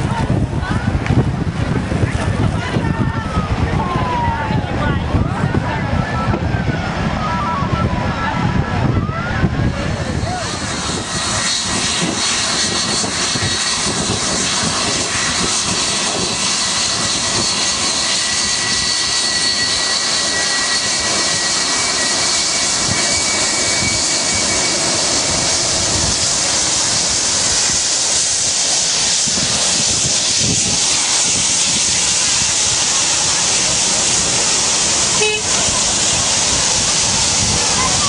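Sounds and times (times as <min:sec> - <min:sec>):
high engine whine: 0:00.0 - 0:38.0
jet engines rushing: 0:00.0 - 0:38.0.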